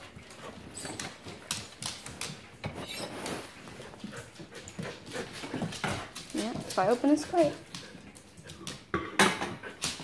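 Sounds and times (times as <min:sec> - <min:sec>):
dog claws clicking on wood floor: 0:00.0 - 0:02.9, 0:03.7 - 0:10.0.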